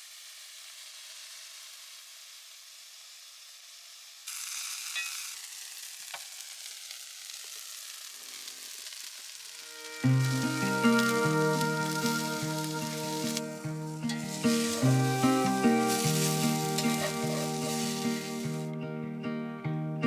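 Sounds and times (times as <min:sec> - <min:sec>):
food sizzling in a frying pan: 0:00.0 - 0:18.7.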